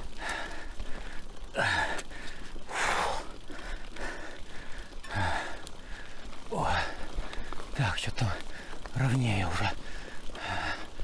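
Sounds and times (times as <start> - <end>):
person gasping breaths: 0.0 - 8.9, 9.6 - 11.0.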